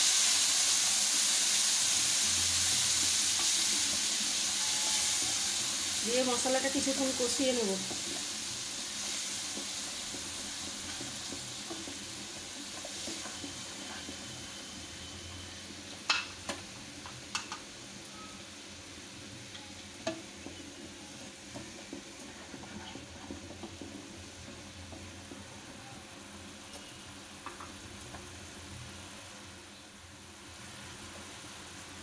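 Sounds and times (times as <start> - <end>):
paste sizzling in oil: 0.0 - 32.0.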